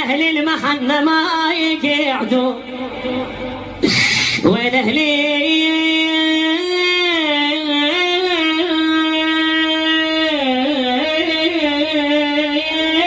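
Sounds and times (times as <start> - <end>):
man singing a long note: 0.0 - 13.0.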